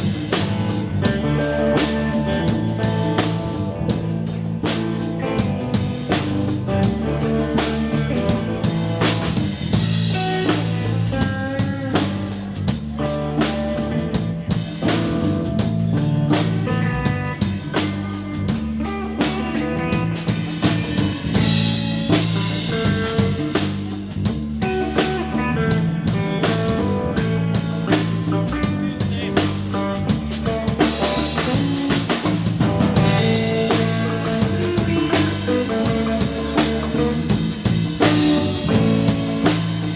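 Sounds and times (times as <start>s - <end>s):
bass: 0.0s - 39.9s
drum kit beat: 0.0s - 39.9s
electric guitar: 0.0s - 39.9s.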